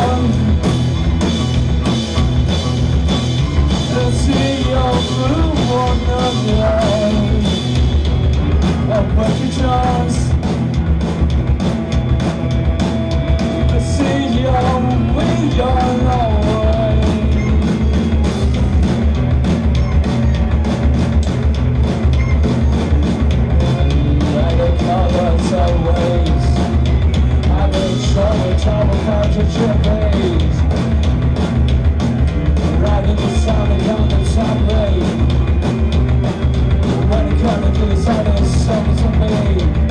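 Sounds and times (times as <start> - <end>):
rock band jamming: 0.0 - 39.9.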